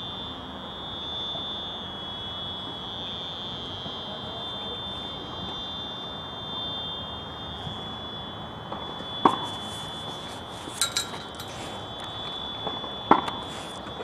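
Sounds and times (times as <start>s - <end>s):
steady high-pitched whine: 0.0s - 14.0s.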